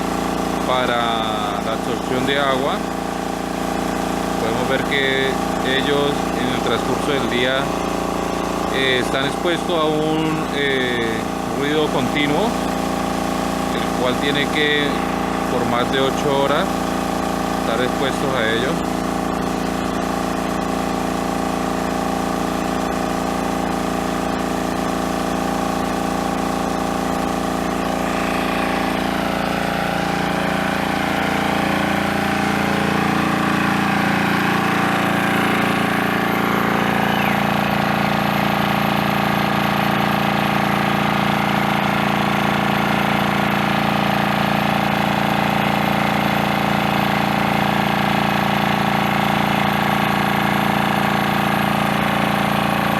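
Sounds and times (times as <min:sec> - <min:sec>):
engine-driven water pump droning: 0:00.0 - 0:52.9.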